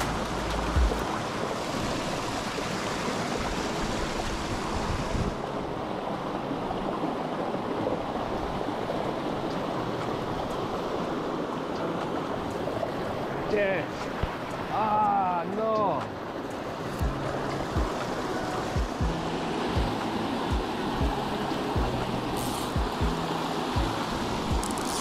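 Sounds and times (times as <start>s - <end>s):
stream rushing over stones: 0.0s - 25.0s.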